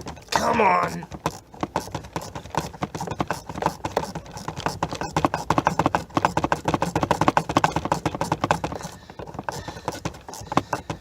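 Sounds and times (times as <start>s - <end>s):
ratchet clicking rapidly: 1.2s - 11.0s.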